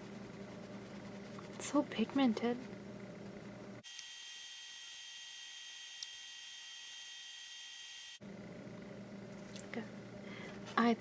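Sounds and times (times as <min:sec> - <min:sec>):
electrical hum and high whine: 0:00.0 - 0:11.0.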